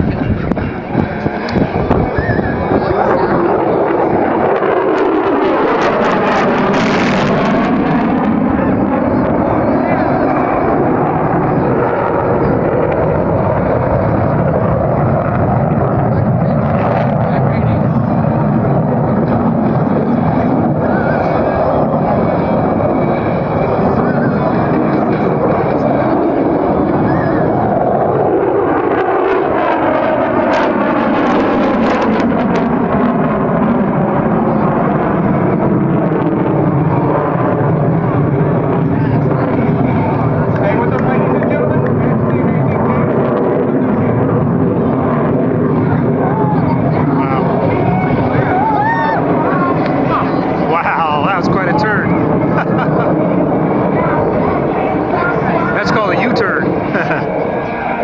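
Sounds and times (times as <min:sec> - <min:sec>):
jet engine roar: 0:00.0 - 0:58.0.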